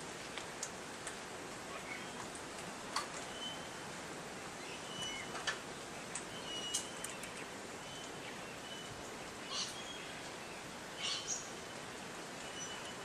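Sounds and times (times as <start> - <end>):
steady outdoor hiss: 0.0 - 13.0
wild birds calling: 1.6 - 2.4, 3.2 - 13.0.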